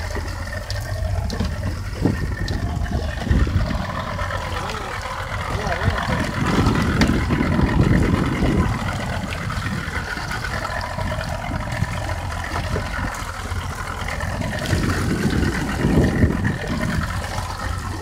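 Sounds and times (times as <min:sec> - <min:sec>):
boat engine running: 0:00.0 - 0:18.0
wind gusting on microphone: 0:00.0 - 0:18.0.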